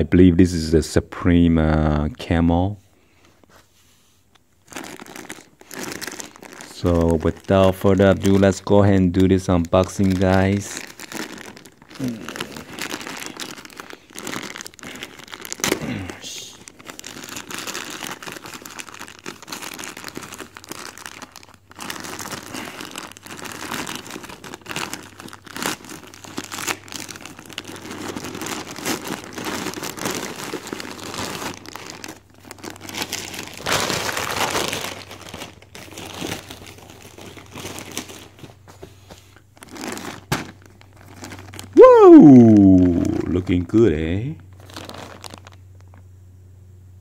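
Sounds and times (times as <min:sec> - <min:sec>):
plastic mailer crinkling: 0:04.6 - 0:46.0.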